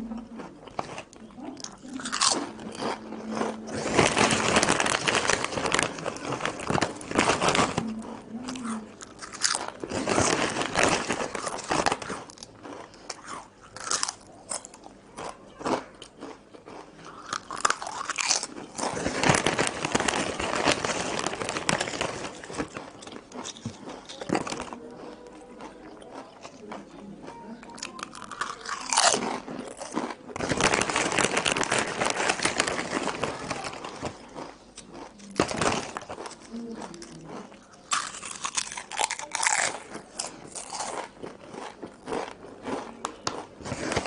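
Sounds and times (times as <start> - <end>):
quiet chewing: 0.0 - 31.0, 31.8 - 44.0
potato chips crunching: 0.0 - 44.0.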